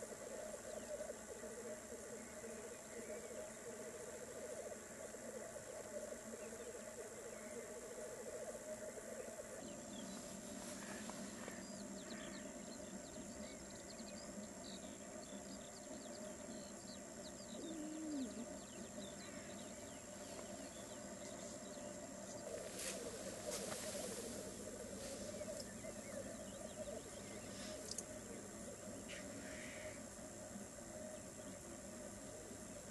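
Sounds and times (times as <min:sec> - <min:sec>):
grouse bubbling coo: 0:00.0 - 0:13.6, 0:15.6 - 0:32.9.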